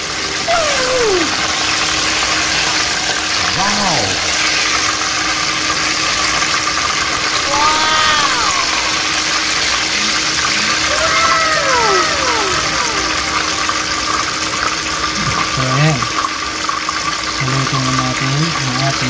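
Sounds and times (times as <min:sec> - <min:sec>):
hot oil sizzling: 0:01.1 - 0:03.5, 0:04.1 - 0:19.0.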